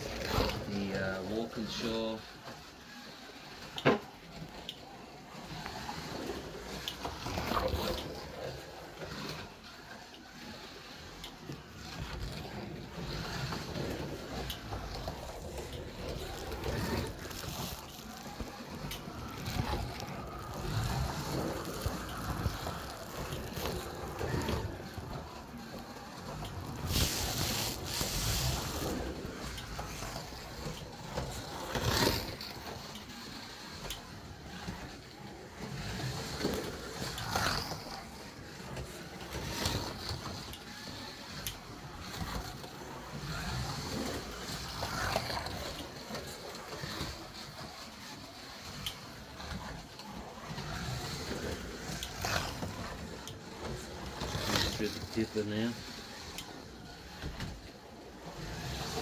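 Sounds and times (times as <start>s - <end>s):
slot car motor whirring: 0.0s - 59.0s
tyres rubbing on plastic track: 5.4s - 59.0s.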